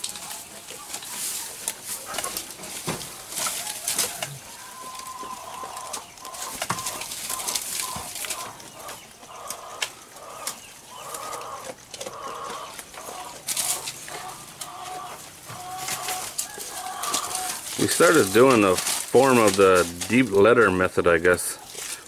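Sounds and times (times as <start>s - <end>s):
chickens clucking: 0.0s - 22.0s
dry branches crackling and rustling: 0.0s - 22.0s.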